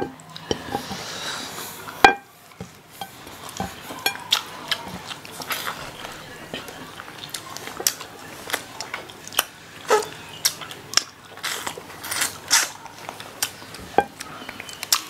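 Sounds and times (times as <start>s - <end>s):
crunching and chewing fried chicken: 0.1s - 15.0s.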